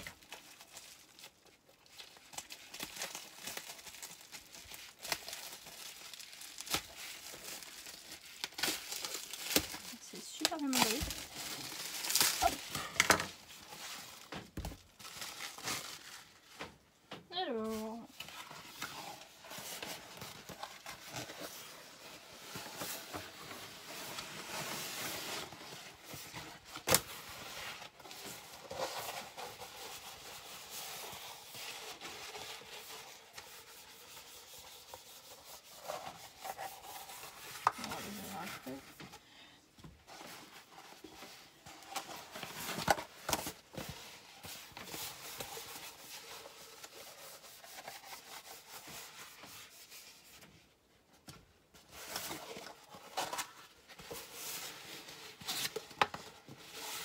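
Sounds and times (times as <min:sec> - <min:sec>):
paper rustling and crinkling: 0:00.0 - 0:39.2, 0:39.8 - 0:57.0.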